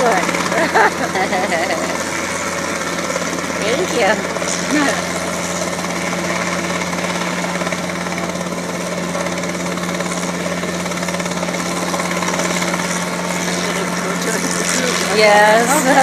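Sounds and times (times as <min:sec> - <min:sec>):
helicopter engine and rotor chop: 0:00.0 - 0:16.0.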